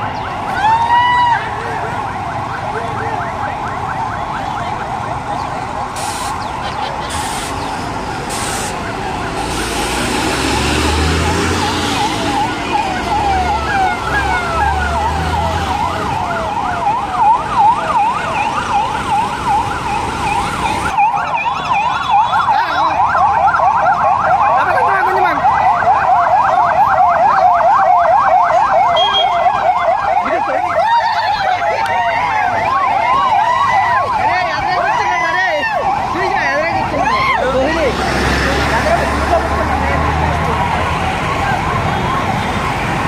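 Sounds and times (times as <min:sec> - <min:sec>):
police sirens yelping: 0:00.0 - 0:43.0.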